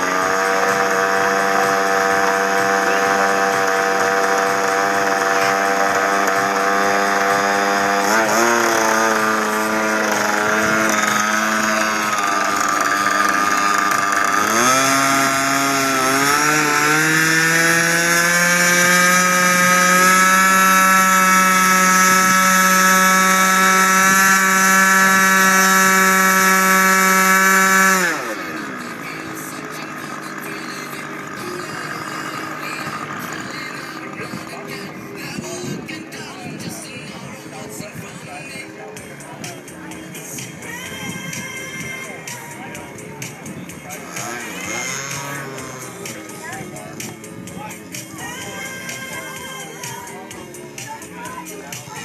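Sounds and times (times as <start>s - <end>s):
small aircraft engine running: 0.0s - 52.0s.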